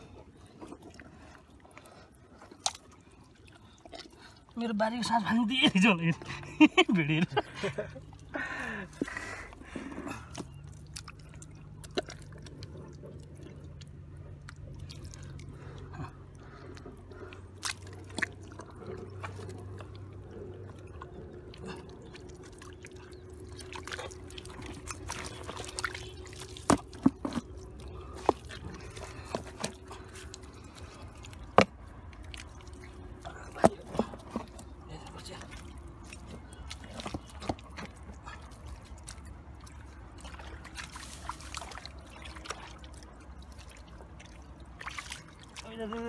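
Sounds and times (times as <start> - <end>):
water splashing and dripping: 0.0 - 46.0.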